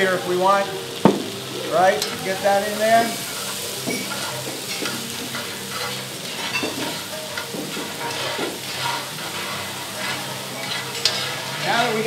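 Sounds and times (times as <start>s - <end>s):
vegetables sizzling in a skillet: 0.0s - 12.0s
spoon scraping a pan: 2.0s - 12.0s.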